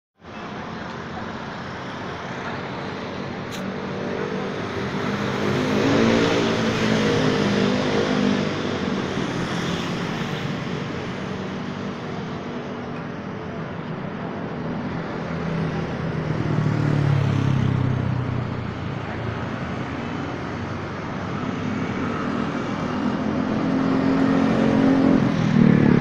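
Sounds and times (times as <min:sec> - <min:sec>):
road noise: 0:00.2 - 0:26.0
motorcycle engines running: 0:00.6 - 0:26.0.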